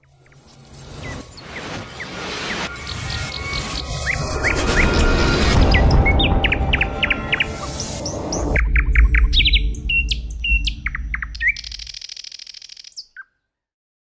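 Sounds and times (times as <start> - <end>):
bird-like chirping and whistling: 0.2 - 13.4.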